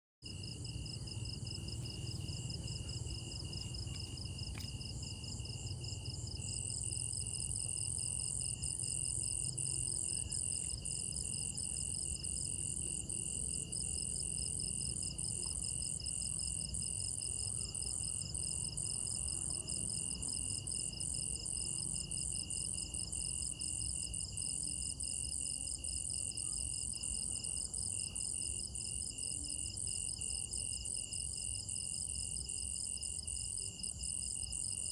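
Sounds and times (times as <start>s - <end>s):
crickets chirping: 0.3s - 34.9s.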